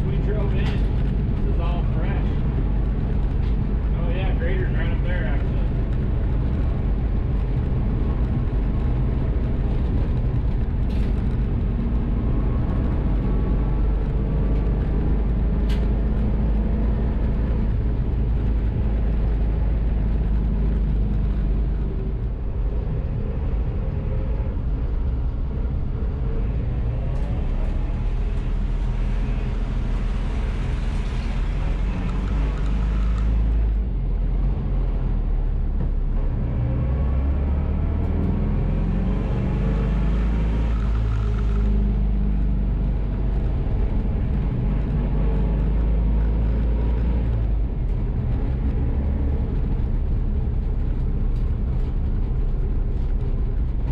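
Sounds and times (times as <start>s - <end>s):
vehicle engine and road rumble: 0.0s - 53.9s.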